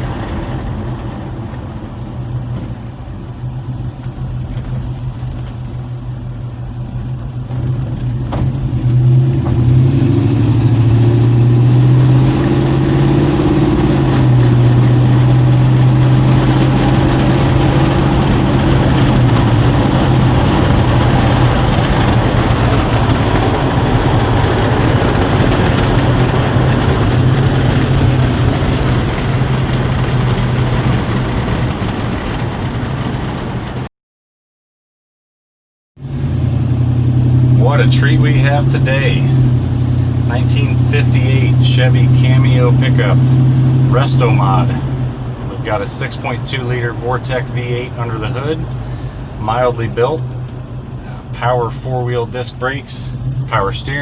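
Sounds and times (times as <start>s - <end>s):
broad rushing noise: 0.0s - 33.9s, 36.1s - 54.0s
truck engine running while driving: 0.0s - 33.9s, 36.0s - 54.0s.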